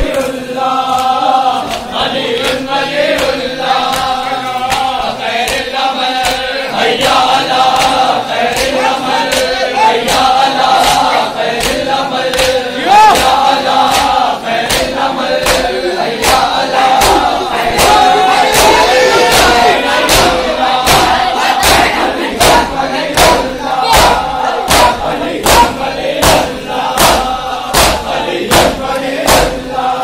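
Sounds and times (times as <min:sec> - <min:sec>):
hand slaps on bare chests: 0:00.0 - 0:29.6
crowd of men chanting: 0:00.0 - 0:30.0.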